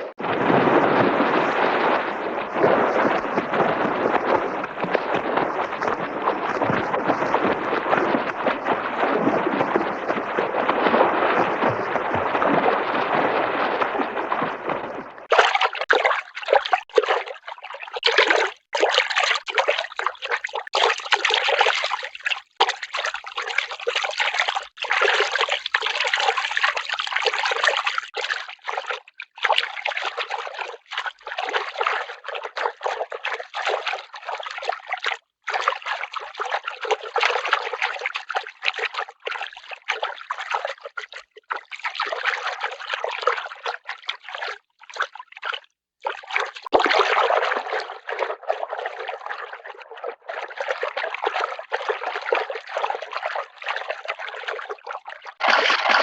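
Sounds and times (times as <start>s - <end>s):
choppy trickling splashing water: 0.0s - 56.0s.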